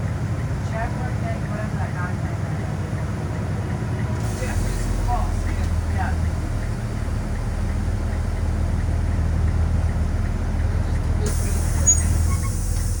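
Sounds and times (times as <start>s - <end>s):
freight train rumbling by: 0.0s - 13.0s.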